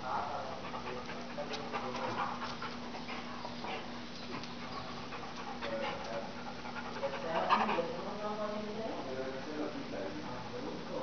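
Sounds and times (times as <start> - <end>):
dog panting: 0.1 - 8.8, 9.6 - 11.0.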